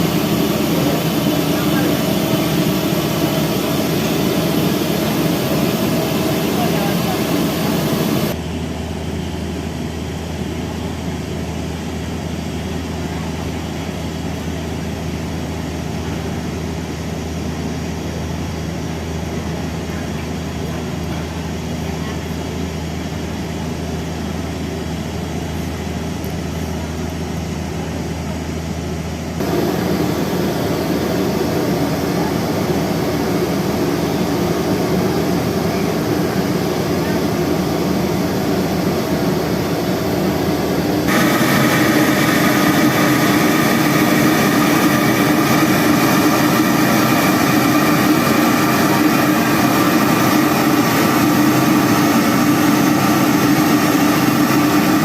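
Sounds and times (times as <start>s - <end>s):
engine-like hum: 0.0s - 55.0s.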